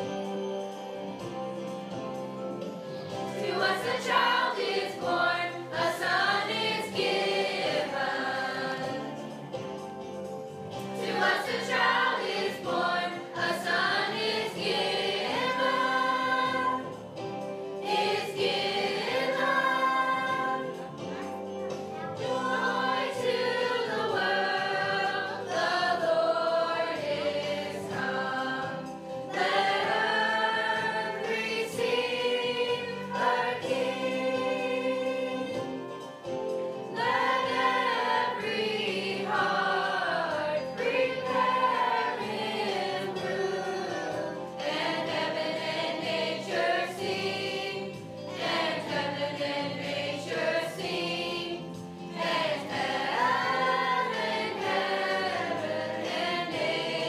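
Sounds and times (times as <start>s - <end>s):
young voices singing in choir: 3.3s - 9.3s, 10.8s - 21.0s, 22.1s - 36.0s, 36.9s - 57.0s.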